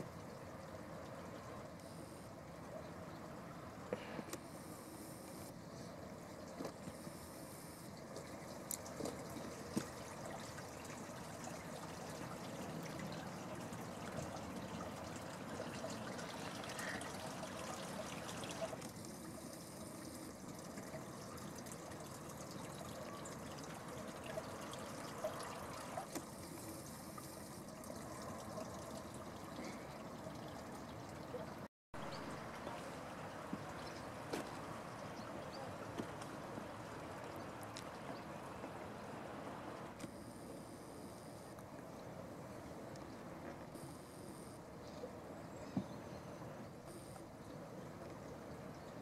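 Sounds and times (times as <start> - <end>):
water trickling over pools: 0.0 - 49.0.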